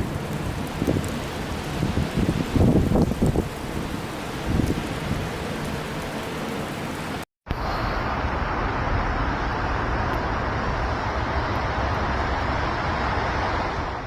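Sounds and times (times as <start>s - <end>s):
road traffic hiss: 0.0s - 14.0s.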